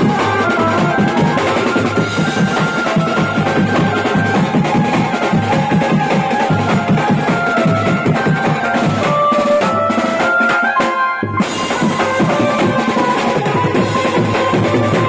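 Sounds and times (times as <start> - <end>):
electronic keyboard melody: 0.0 - 15.0
snare and bass drums: 0.0 - 15.0.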